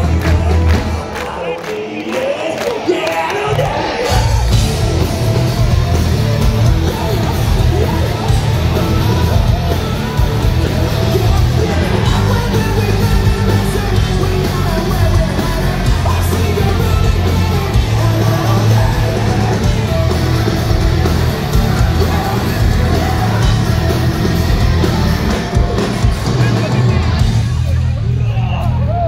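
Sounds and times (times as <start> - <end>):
sung and yelled vocals: 0.0 - 27.6
distorted electric guitars: 0.0 - 29.0
punk rock band playing live: 0.0 - 29.0
booming bass: 3.6 - 29.0.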